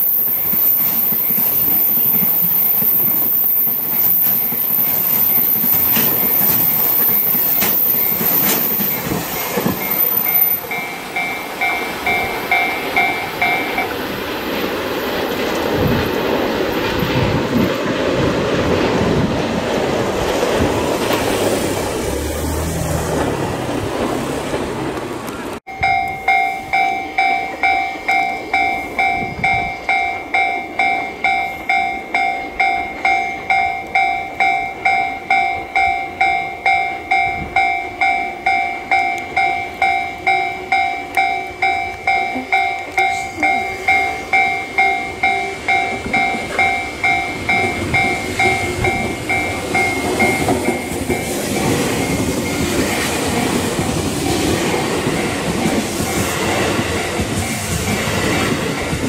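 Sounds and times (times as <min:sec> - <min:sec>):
level-crossing alarm dinging: 0:00.0 - 0:14.4, 0:25.7 - 0:59.0
electric train passing quietly: 0:00.0 - 0:59.0
freight train rattling past: 0:00.0 - 0:59.0.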